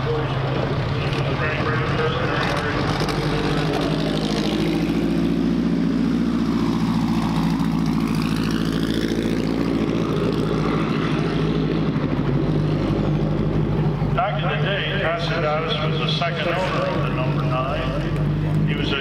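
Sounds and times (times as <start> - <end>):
race car engine running loud: 0.0 - 19.0.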